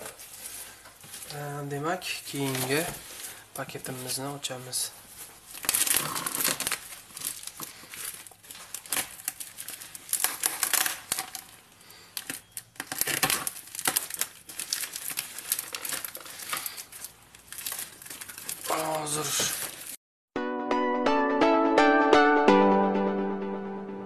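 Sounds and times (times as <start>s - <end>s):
plastic packaging crinkling and ripping: 0.0s - 20.0s.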